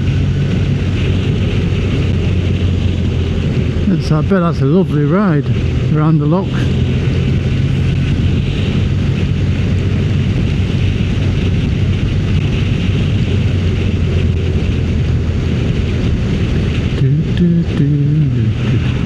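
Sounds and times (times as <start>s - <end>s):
motorcycle engine running: 0.0s - 19.0s
wind rushing: 0.0s - 19.0s.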